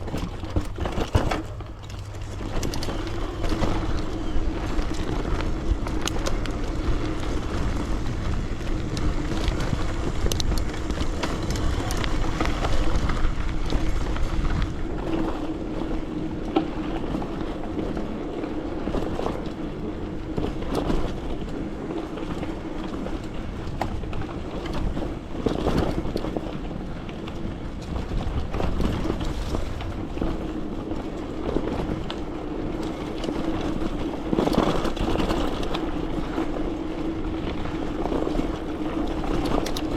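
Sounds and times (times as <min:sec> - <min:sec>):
bike clicks and rattles: 0:00.0 - 0:39.9
constant hum: 0:00.0 - 0:39.9
wind rumble on microphone: 0:00.0 - 0:39.9.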